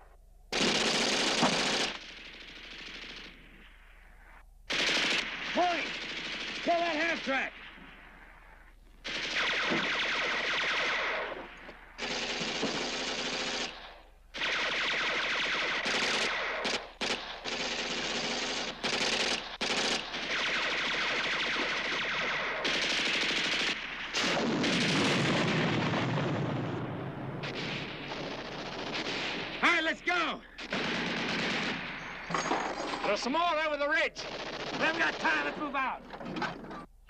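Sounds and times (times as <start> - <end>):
machine-gun fire: 0.5 - 3.6, 4.7 - 7.8, 9.0 - 29.6, 30.6 - 33.1, 34.2 - 35.6.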